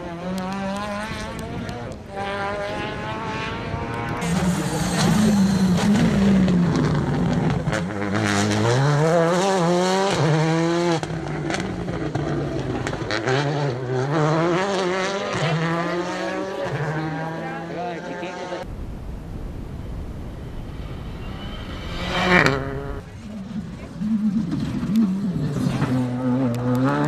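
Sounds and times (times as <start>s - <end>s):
rally car engine revving: 0.0s - 19.3s, 20.2s - 27.0s.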